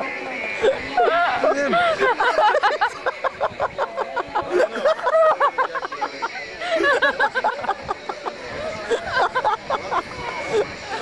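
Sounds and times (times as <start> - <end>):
babble of voices: 0.0 - 11.0.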